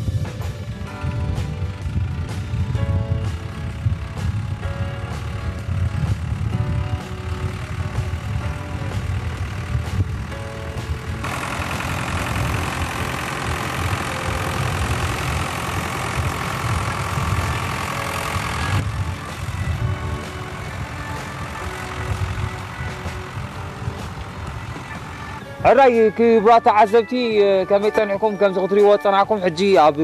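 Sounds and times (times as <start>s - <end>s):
tractor engine throbbing: 0.0s - 30.0s.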